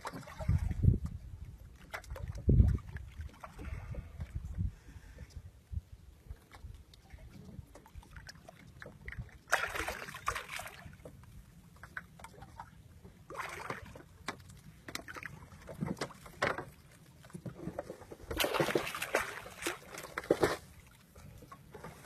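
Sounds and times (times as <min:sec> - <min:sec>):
water splashing around boat: 0:00.0 - 0:05.5, 0:06.2 - 0:22.0.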